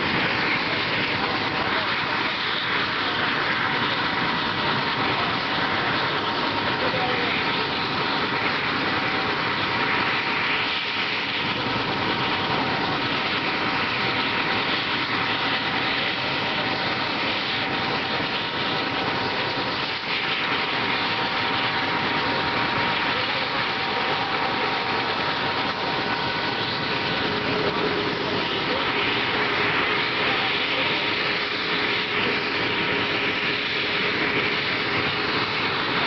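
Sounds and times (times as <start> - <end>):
helicopter engines and rotor: 0.0 - 36.0
high engine whine: 0.0 - 36.0.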